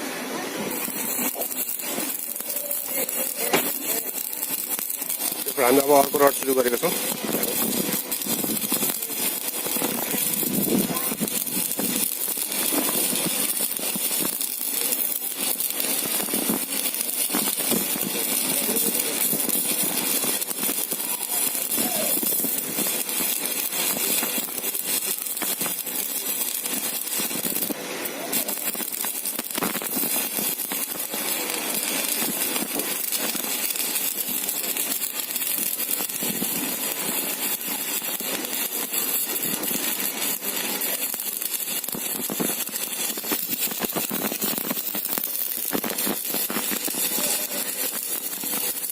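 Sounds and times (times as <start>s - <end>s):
welding arc crackling and sizzling: 0.0s - 48.9s.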